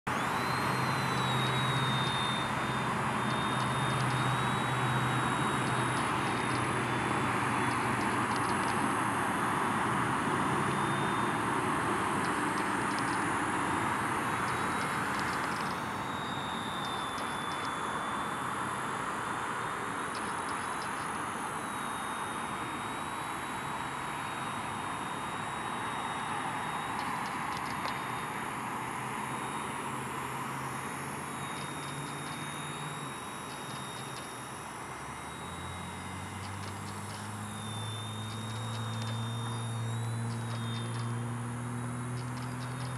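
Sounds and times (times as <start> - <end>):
rc helicopter motor whining: 0.1 - 42.9.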